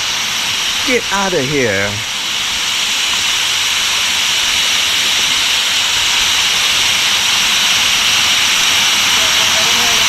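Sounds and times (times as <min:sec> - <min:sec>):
waterfall pouring: 0:00.1 - 0:10.0.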